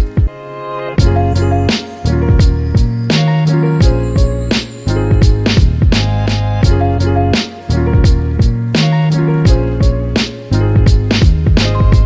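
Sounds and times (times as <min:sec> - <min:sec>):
drum beat: 0:00.0 - 0:00.4, 0:01.0 - 0:12.0
held bass and chord notes: 0:00.0 - 0:12.0.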